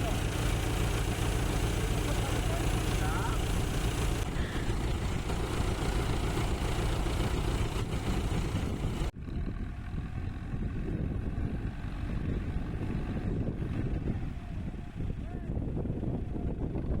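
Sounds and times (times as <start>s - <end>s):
tractor engine running: 0.0s - 14.3s.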